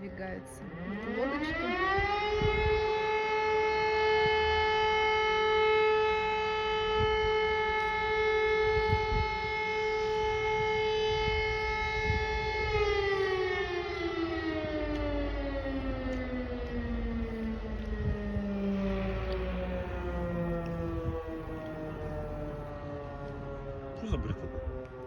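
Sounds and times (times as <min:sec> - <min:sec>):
siren steady tone winding down: 0:00.0 - 0:25.0.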